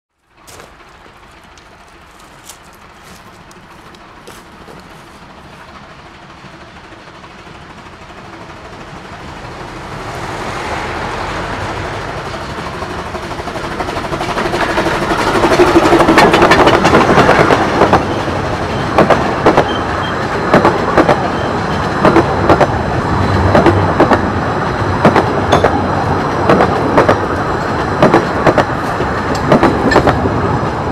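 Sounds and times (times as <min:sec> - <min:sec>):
wheels clicking over rail joints: 0:00.2 - 0:09.0, 0:12.8 - 0:30.9
steam locomotive running past: 0:00.2 - 0:30.9.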